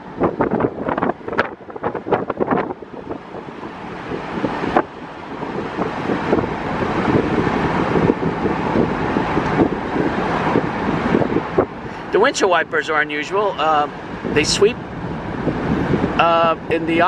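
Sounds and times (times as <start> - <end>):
wind buffeting microphone: 0.0 - 17.0
wind rush and road noise: 0.0 - 17.0.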